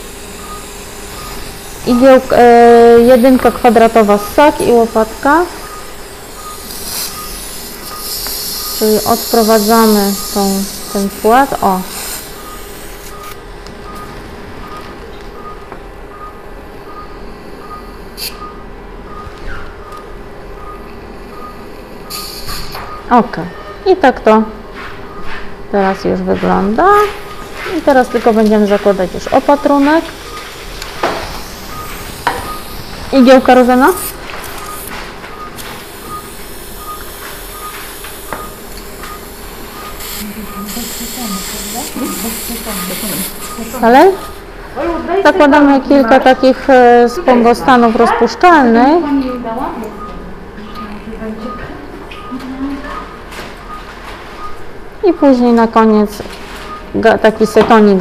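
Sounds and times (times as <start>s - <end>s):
equipment hum: 0.0s - 58.0s
patient monitor beeping: 0.0s - 58.0s.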